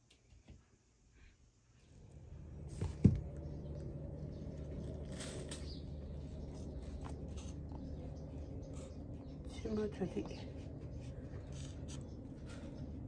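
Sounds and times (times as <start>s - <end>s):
low background rumble: 1.8s - 13.0s.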